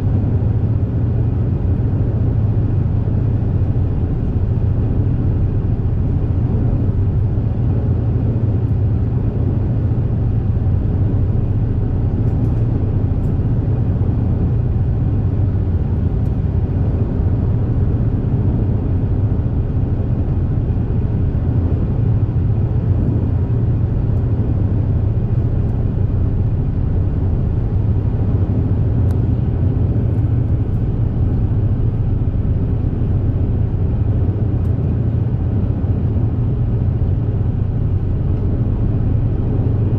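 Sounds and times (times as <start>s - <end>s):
ferry engines rumbling: 0.0s - 39.9s
low hum: 3.2s - 39.9s.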